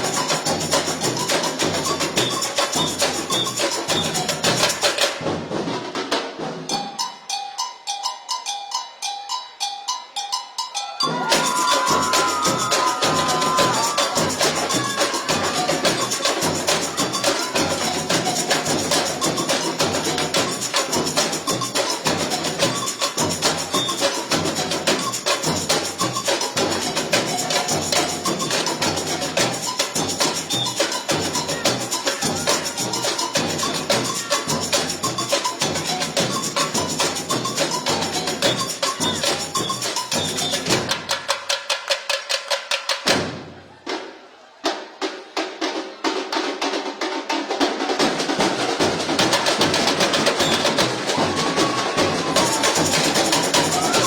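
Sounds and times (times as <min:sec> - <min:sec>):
fast snare drums: 0:00.0 - 0:07.0, 0:11.1 - 0:54.0
small hand percussion: 0:00.0 - 0:43.5, 0:47.5 - 0:54.0.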